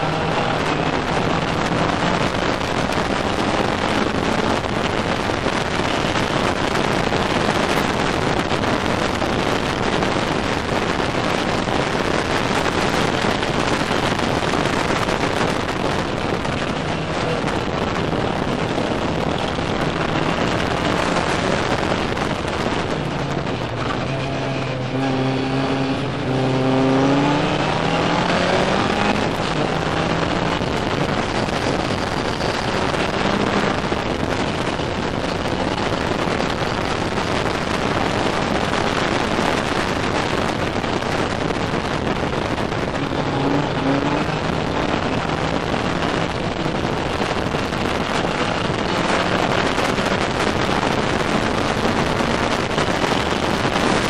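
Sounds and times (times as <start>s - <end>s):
race car engine revving: 0.0s - 54.0s
wind and road noise: 0.0s - 54.0s.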